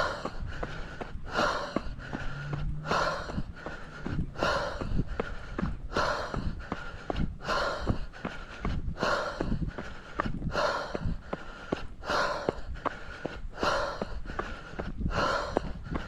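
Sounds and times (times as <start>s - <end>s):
footsteps on trail: 0.0s - 16.0s
heavy breathing: 0.0s - 16.0s.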